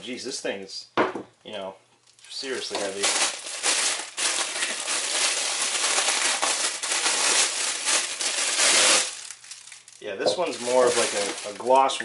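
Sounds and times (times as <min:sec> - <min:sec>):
plastic wrap crinkling: 0:02.0 - 0:12.0.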